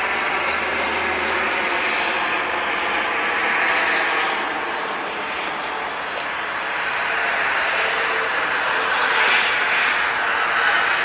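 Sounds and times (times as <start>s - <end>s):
turboprop engines rushing: 0.0s - 11.0s.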